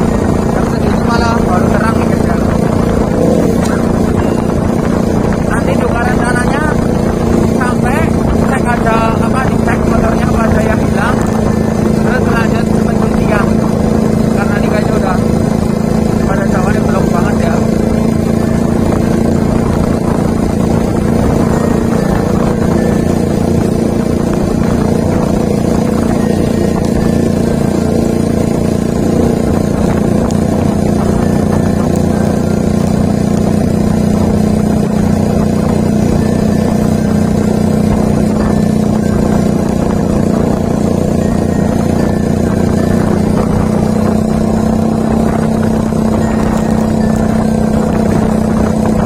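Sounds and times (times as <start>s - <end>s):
motorcycle engine running steadily: 0.0s - 49.0s.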